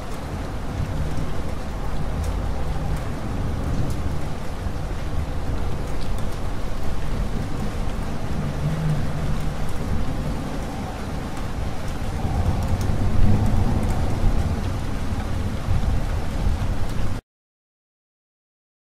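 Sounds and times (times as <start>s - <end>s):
steady rain falling: 0.0s - 17.2s
thunder rumble: 0.0s - 17.2s.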